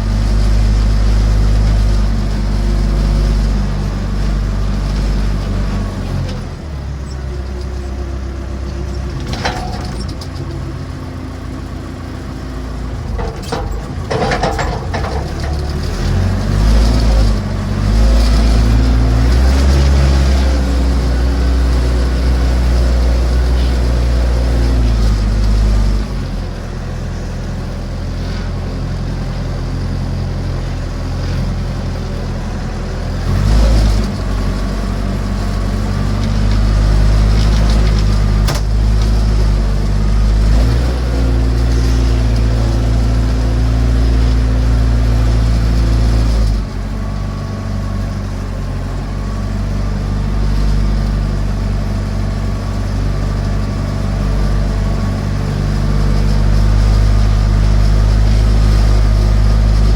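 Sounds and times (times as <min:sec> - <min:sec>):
backhoe engine running: 0:00.0 - 0:59.9.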